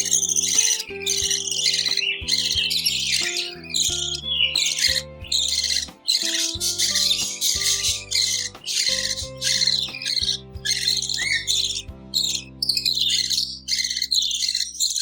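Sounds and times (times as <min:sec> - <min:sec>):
background music with held notes: 0:00.0 - 0:15.0
budgies chirping: 0:00.0 - 0:15.0.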